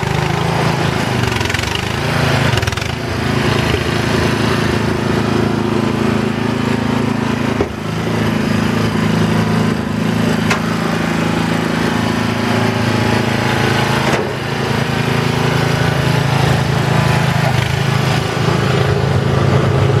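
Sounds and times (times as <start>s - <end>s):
small petrol engine running: 0.0s - 20.0s.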